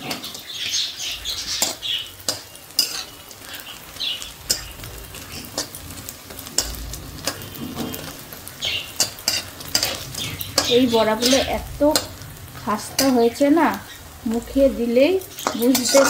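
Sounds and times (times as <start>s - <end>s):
fritters sizzling in hot oil: 0.0s - 16.0s
metal utensil scraping pan: 0.0s - 16.0s.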